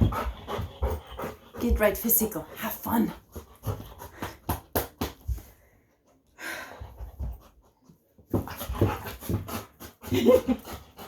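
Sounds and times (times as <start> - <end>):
dog panting: 0.0 - 4.7, 5.9 - 11.0.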